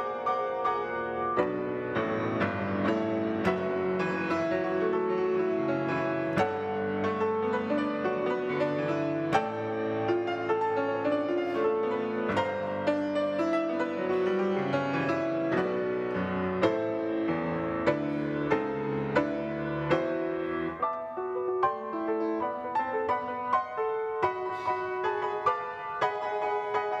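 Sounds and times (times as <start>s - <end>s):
grand piano piece: 0.0s - 27.0s.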